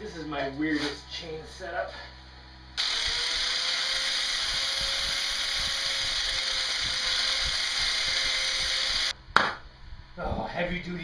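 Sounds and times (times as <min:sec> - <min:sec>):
faint motor hum: 0:00.0 - 0:11.0.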